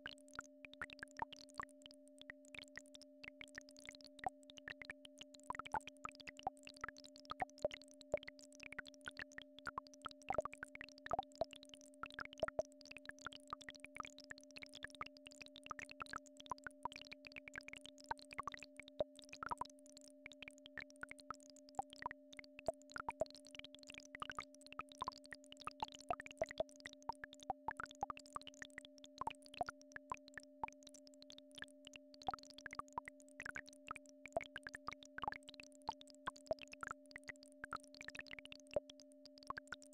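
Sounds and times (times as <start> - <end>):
soft plinks and clicks: 0.0 - 39.9.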